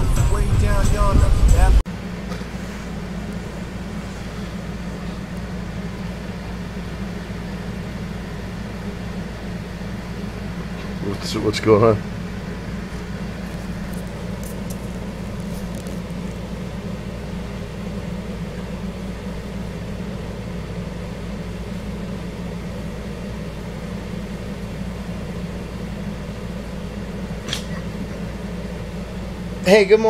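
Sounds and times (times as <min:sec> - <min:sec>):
car engine drone: 0:00.0 - 0:30.0
road noise inside car: 0:00.0 - 0:30.0.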